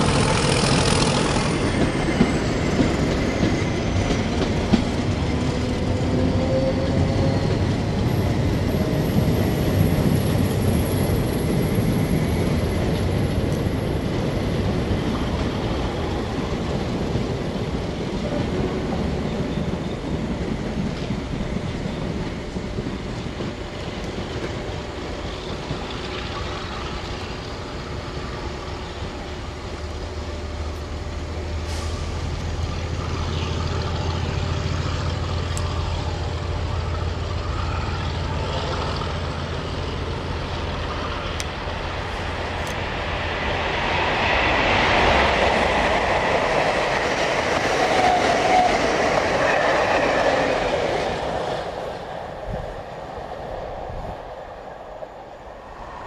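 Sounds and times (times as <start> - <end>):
passenger train passing: 0.0 - 56.0.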